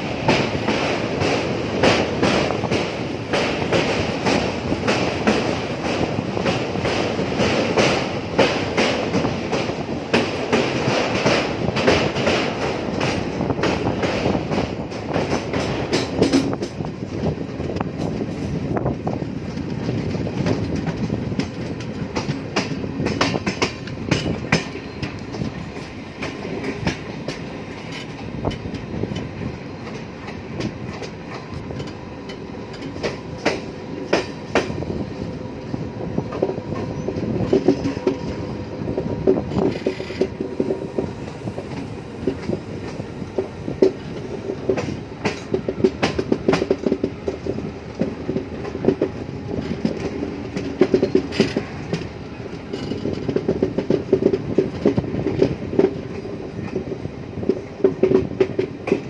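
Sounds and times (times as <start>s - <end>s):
train rumble: 0.0s - 59.0s
wheels clacking over rail joints: 0.0s - 59.0s.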